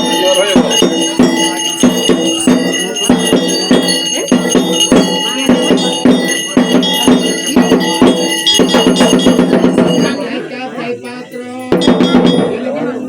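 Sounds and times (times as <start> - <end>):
bells ringing: 0.0 - 13.0
regular percussion strokes: 0.0 - 13.0
voices: 0.0 - 13.0.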